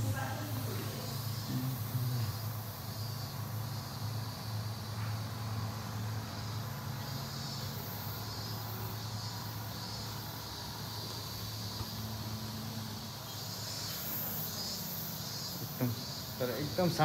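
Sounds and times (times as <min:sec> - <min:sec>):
even hiss: 0:00.0 - 0:17.0
faint high-pitched chirping pulses: 0:00.0 - 0:17.0.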